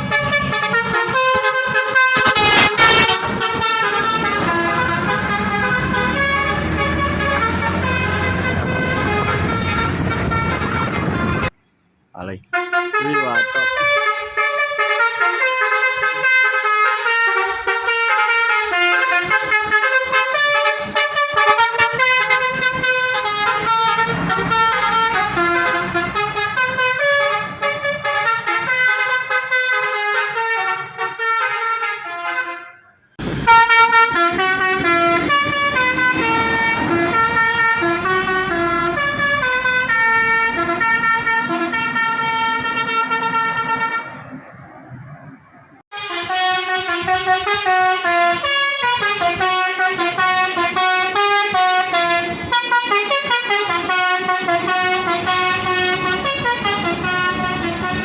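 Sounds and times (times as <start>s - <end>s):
musical bus horn tune: 0.0s - 11.6s, 12.5s - 44.2s, 45.9s - 58.0s.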